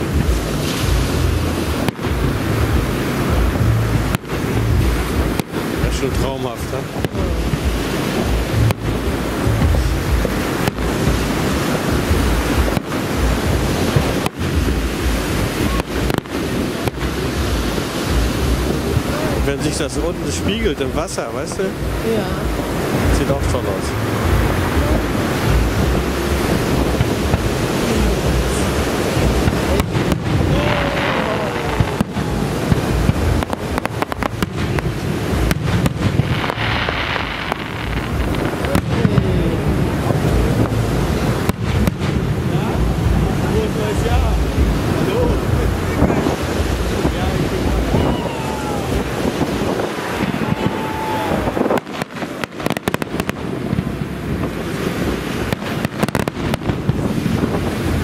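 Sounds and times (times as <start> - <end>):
firework hissing rush: 0.0 - 58.0
firework pops: 0.0 - 58.0
fireworks bangs and crackles: 0.0 - 58.0
low rumble: 0.0 - 58.0
wind buffeting microphone: 0.0 - 58.0.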